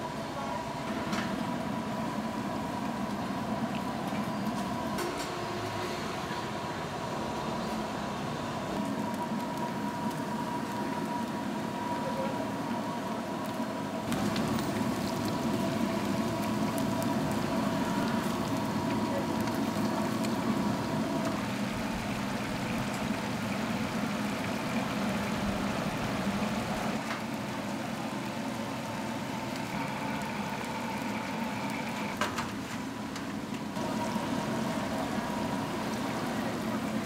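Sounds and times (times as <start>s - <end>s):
hot oil sizzling and bubbling: 0.0s - 37.0s.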